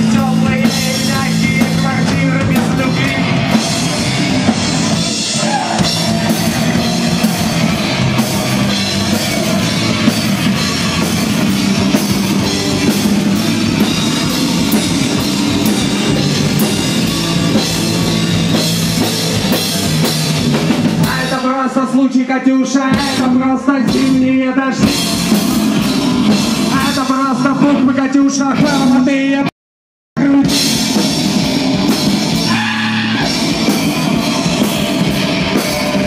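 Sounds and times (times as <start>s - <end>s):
electric guitar: 0.0s - 21.4s, 22.9s - 29.4s, 30.2s - 36.0s
driving drum kit: 0.0s - 29.5s, 30.2s - 36.0s.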